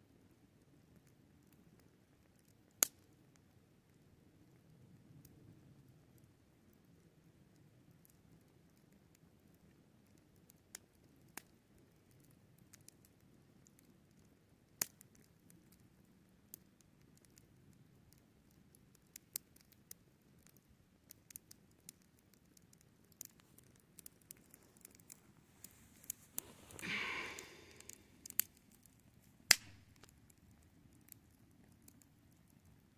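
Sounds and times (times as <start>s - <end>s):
campfire crackling and popping: 0.1s - 32.9s.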